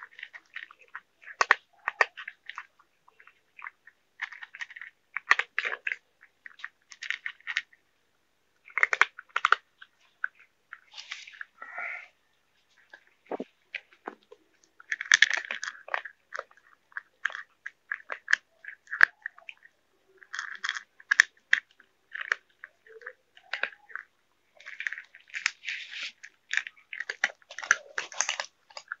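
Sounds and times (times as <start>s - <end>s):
cats chewing food: 0.0s - 29.0s.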